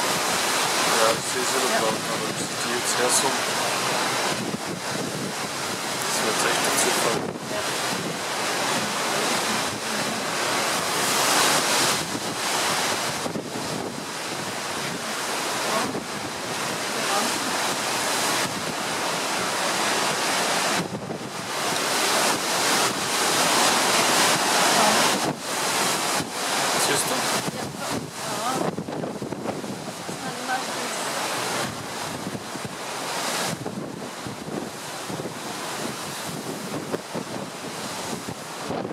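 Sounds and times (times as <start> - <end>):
sea waves rushing: 0.0 - 38.9
wind buffeting the microphone: 0.0 - 38.9.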